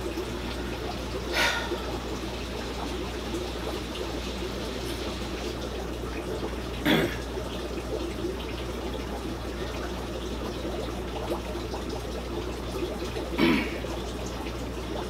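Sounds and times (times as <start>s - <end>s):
constant low hum: 0.0s - 15.0s
water trickling: 0.0s - 15.0s.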